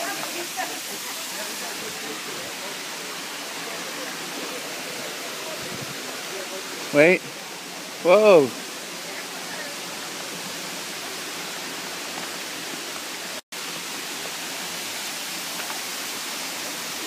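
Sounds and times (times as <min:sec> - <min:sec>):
waterfall pouring into a pool: 0:00.0 - 0:17.0.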